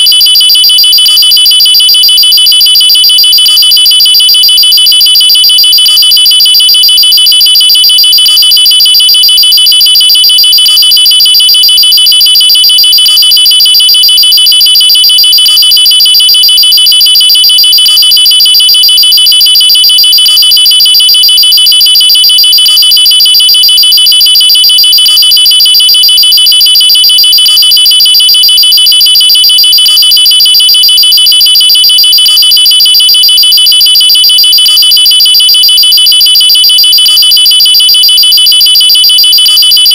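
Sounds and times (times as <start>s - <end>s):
high-pitched pulsing electronic alarm: 0.0s - 39.9s.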